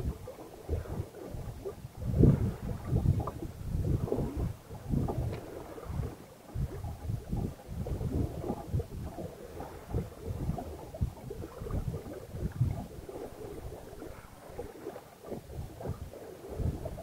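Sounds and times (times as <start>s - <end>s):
water washing along hull: 0.0s - 17.0s
wind buffeting microphone: 0.0s - 17.0s.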